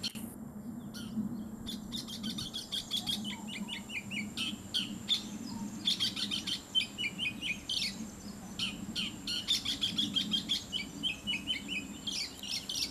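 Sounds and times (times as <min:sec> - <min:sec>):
bird singing whistled notes: 0:00.0 - 0:12.9.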